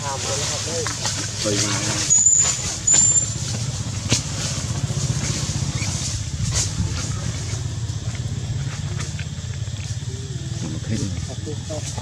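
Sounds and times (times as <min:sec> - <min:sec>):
engine running: 0:00.3 - 0:12.0.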